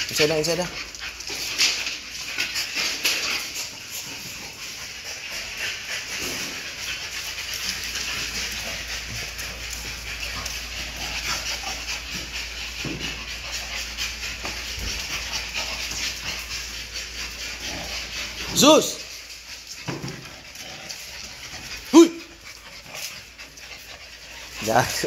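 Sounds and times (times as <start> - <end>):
faint dog sounds: 2.7 - 25.0.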